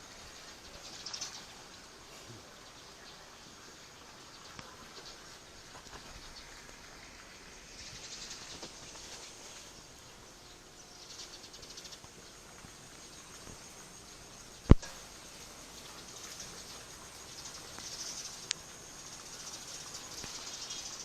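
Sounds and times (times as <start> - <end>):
insects trilling: 0.0 - 21.0
light rain hiss: 0.0 - 21.0.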